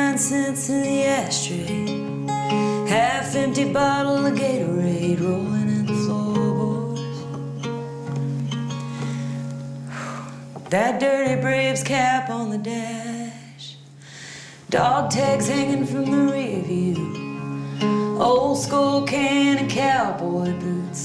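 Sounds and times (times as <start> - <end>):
woman singing: 0.0 - 7.6, 10.6 - 14.0, 14.7 - 21.0
acoustic guitar strumming: 0.0 - 21.0.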